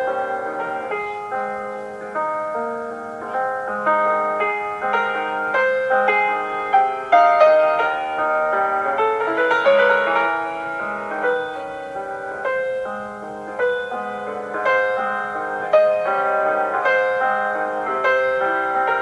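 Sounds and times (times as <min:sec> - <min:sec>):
slow solo piano piece: 0:00.0 - 0:19.0.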